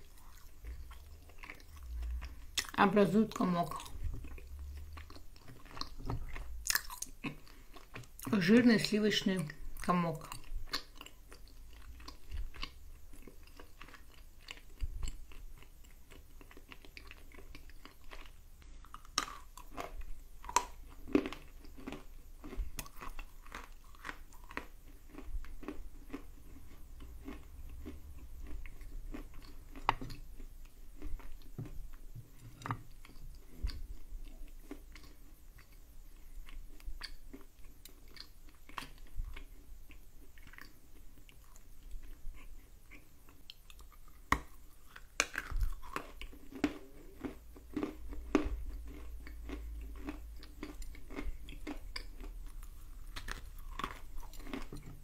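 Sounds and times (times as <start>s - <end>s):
chewing and crunching clay: 0.0s - 55.0s.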